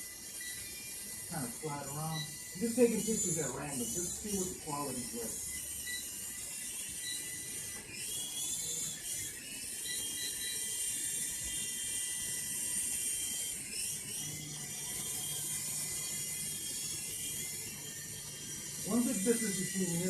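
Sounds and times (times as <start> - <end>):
rc helicopter rotor whine: 0.0 - 20.0.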